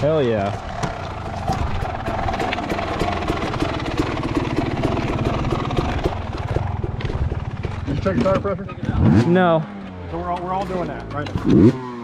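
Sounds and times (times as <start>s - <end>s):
dirt bike engine idling: 0.0s - 11.4s.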